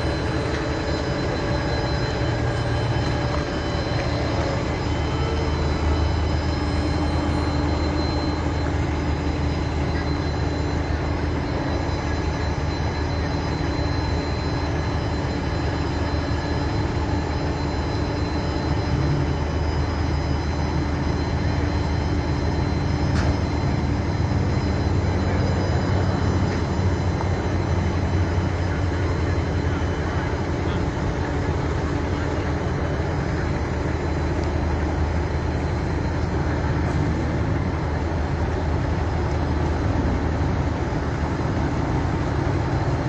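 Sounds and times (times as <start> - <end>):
vehicle engine rumble: 0.0 - 43.0.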